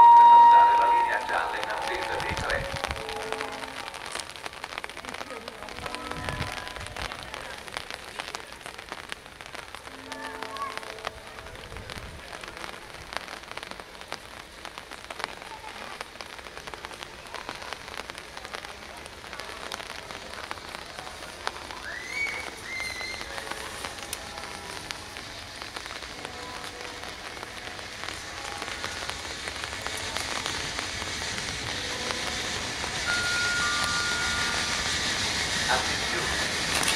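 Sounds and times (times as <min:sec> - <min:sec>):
steam train approaching: 0:00.0 - 0:36.9
rain drops tapping: 0:00.1 - 0:36.9.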